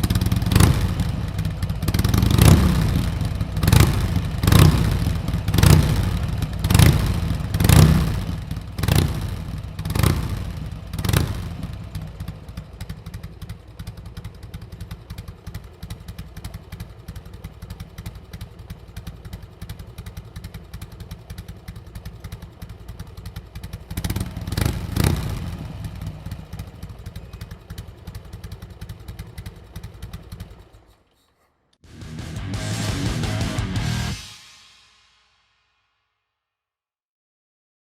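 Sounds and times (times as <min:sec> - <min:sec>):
motorcycle engine revving and idling: 0:00.0 - 0:34.3.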